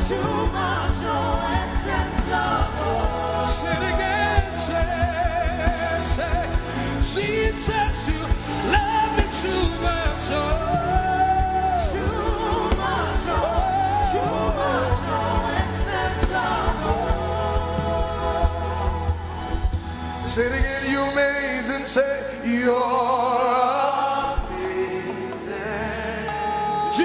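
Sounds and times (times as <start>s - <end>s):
band playing: 0.0s - 27.0s
person singing: 0.0s - 27.0s.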